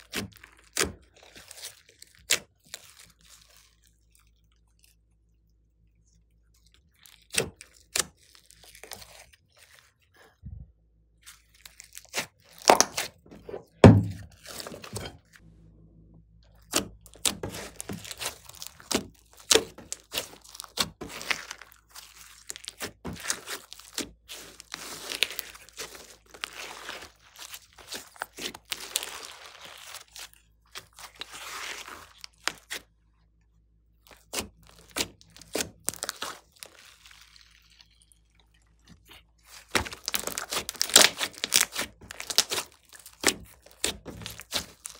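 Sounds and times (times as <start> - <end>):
slime crunching and popping: 0.0 - 5.6, 6.5 - 10.1, 11.2 - 15.4, 16.5 - 44.9.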